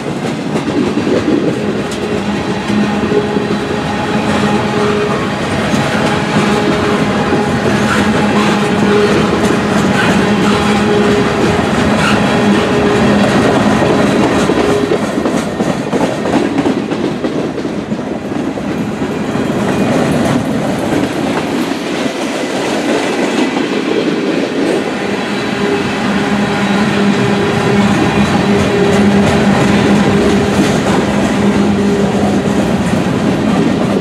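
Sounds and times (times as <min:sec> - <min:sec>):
freight train wheels clicking: 0:00.0 - 0:34.0.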